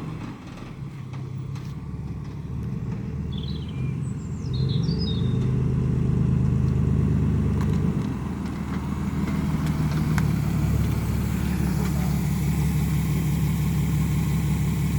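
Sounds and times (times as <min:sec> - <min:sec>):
car engine droning: 0:00.0 - 0:14.9.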